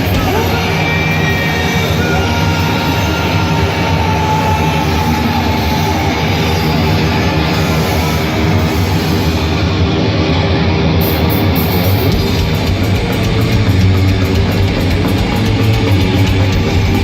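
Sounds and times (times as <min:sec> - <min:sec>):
thrash metal band playing live: 0:00.0 - 0:17.0.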